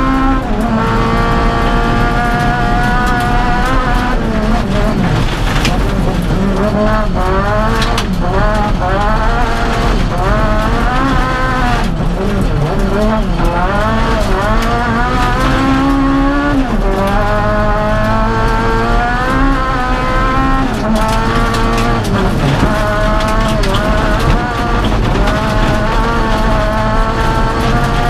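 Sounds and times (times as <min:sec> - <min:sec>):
car engine revving through gears: 0:00.0 - 0:28.0.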